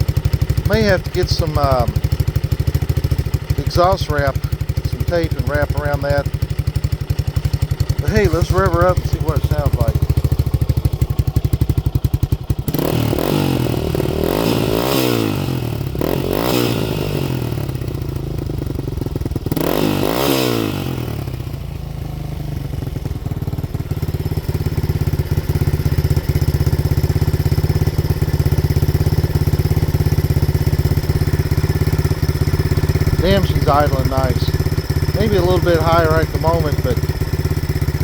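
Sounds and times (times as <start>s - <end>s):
engine idling and revving: 0.0s - 38.0s.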